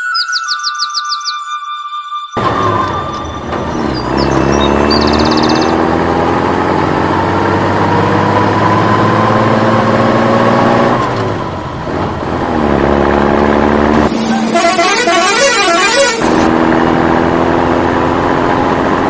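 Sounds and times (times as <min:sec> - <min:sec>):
truck engine accelerating: 0:02.4 - 0:19.0.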